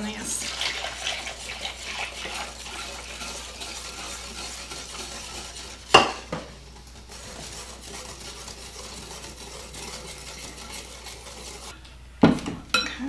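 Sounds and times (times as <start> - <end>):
whisk scraping in glass bowl: 0.4 - 11.8.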